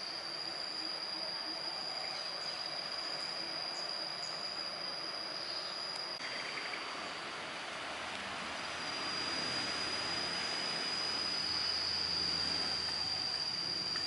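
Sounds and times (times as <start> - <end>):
insects buzzing: 0.0 - 14.0
outdoor background noise: 0.0 - 14.0.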